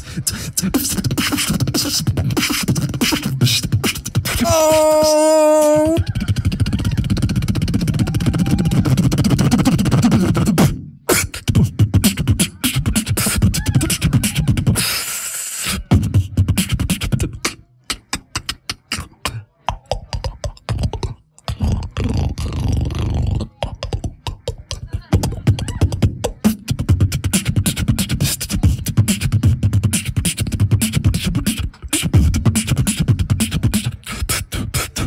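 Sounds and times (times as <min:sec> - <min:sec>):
beatboxing into microphone: 0:00.0 - 0:35.0.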